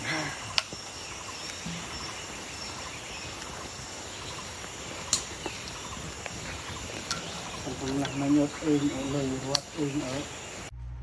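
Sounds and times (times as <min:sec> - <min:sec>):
faint bird chirps: 0:00.0 - 0:10.7
high-pitched insect drone: 0:00.0 - 0:10.7.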